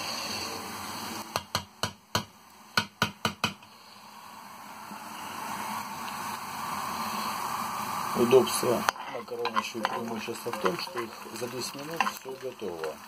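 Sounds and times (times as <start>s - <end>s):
onion frying in a pan: 0.0s - 1.7s, 3.6s - 13.0s.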